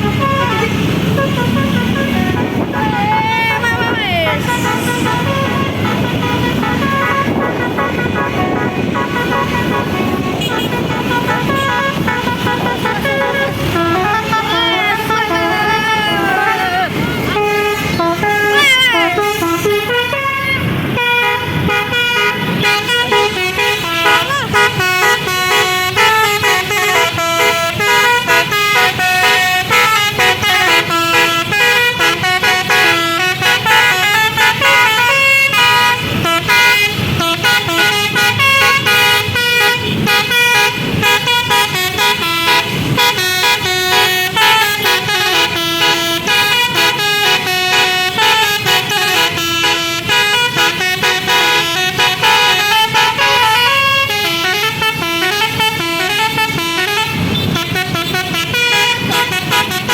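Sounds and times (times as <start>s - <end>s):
multi-tone bus horn melody: 0.0s - 59.9s.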